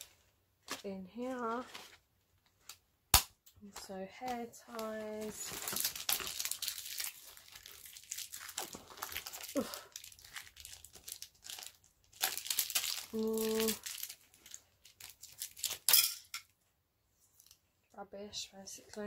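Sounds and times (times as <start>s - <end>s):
rustling and crinkling: 0.0s - 2.8s, 3.7s - 15.9s, 17.1s - 17.7s.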